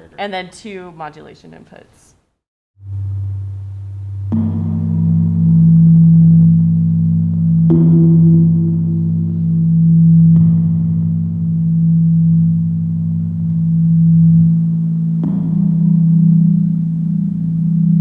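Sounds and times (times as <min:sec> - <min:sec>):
gong-like tone: 0:02.8 - 0:18.0
low electronic drone: 0:02.8 - 0:18.0.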